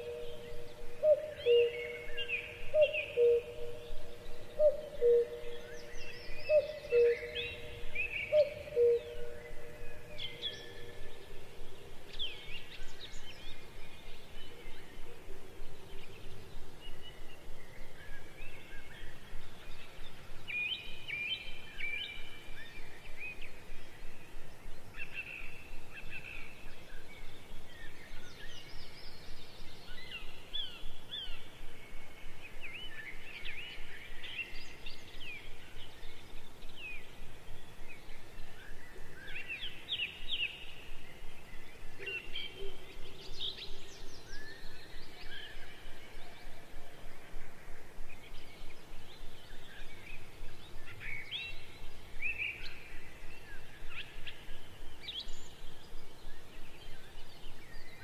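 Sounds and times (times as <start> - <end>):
small birds chirping: 0.0 - 58.0
steady background hiss: 0.0 - 58.0.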